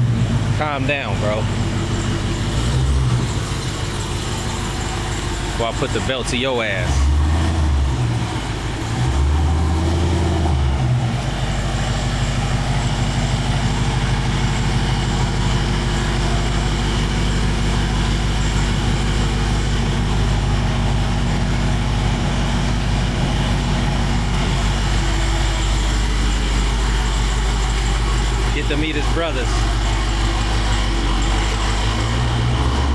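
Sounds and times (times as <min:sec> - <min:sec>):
car engine idling with lope: 0:00.0 - 0:32.9.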